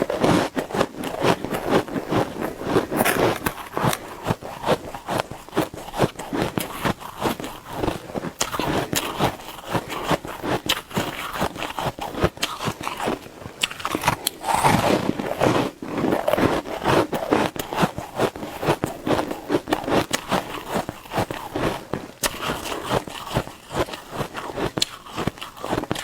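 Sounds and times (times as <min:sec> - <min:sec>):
chewing crunchy ice: 0:00.0 - 0:26.0.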